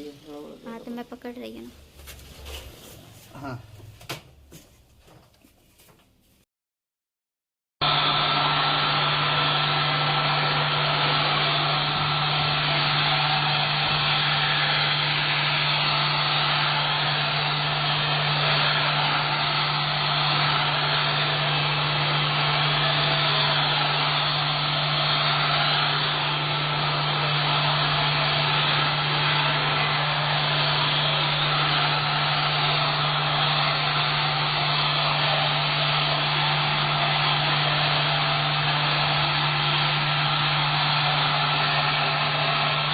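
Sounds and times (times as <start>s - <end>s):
vacuum cleaner running: 7.8s - 42.9s.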